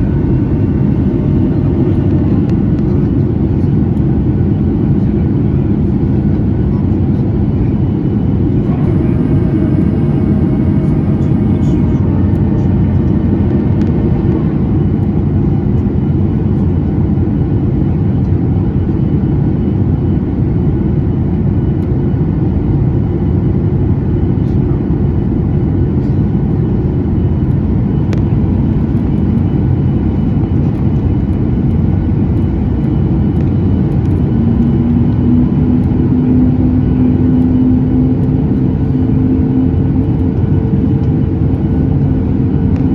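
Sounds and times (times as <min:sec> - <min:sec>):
airplane cabin roar: 0:00.0 - 0:42.9
steady engine tone: 0:00.0 - 0:42.9.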